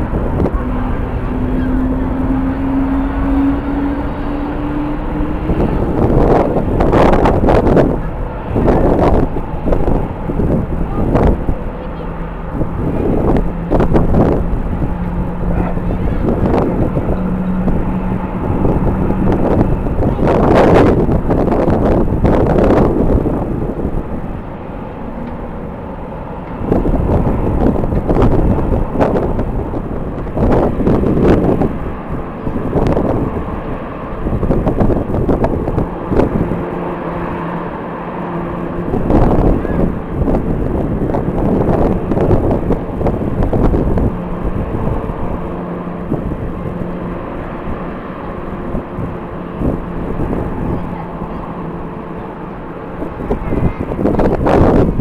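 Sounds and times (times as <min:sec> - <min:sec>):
jet aircraft engines rumbling: 0:00.0 - 0:55.0
strong wind buffeting microphone: 0:00.0 - 0:55.0.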